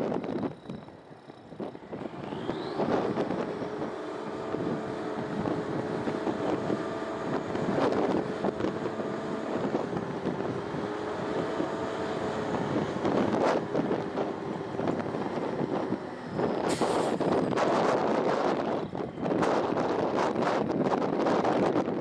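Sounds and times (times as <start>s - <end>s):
hydraulic pump whine: 0.0s - 22.0s
truck engine running: 0.0s - 22.0s
wind buffeting microphone: 0.0s - 22.0s.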